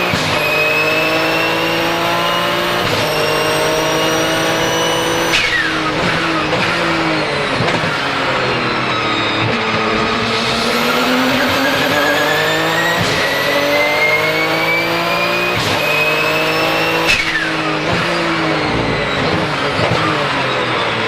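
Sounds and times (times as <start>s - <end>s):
car engine at full throttle: 0.0s - 21.0s
turbo whistle: 0.0s - 21.0s.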